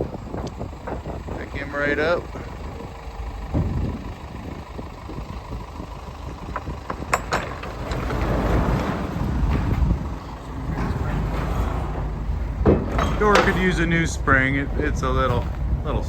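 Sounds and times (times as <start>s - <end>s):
hydraulic liftgate rumbling: 0.0s - 16.0s.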